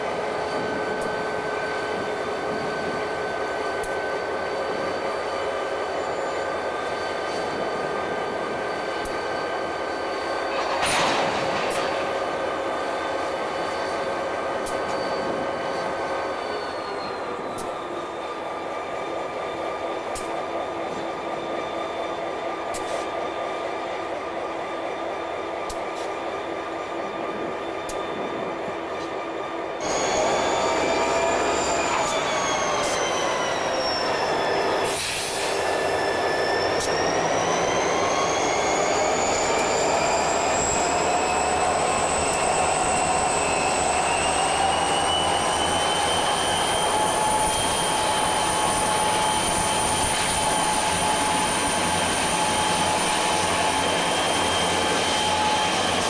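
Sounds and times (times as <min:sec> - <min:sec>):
diesel locomotives passing: 0:00.0 - 0:56.0
engine high whine: 0:00.0 - 0:56.0.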